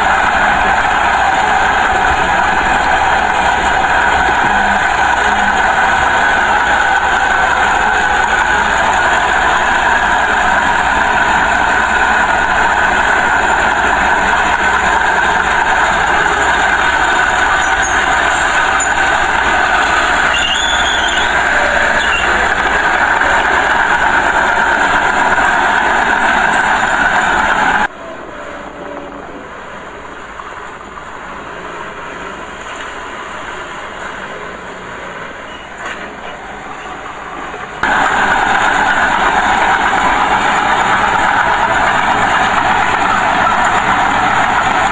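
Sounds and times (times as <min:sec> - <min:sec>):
diesel earthmoving machinery running: 0:00.0 - 0:27.9, 0:29.7 - 0:44.9.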